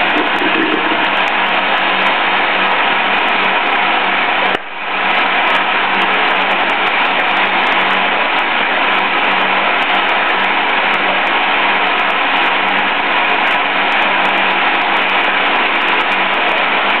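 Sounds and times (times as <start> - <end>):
machine whirring and humming: 0.0 - 17.0.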